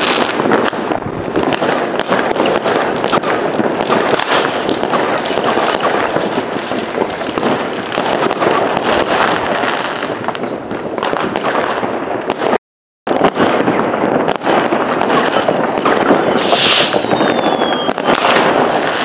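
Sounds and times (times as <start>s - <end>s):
fireworks crackling and popping: 0.0s - 19.0s
sharp firecracker bangs: 0.0s - 19.0s.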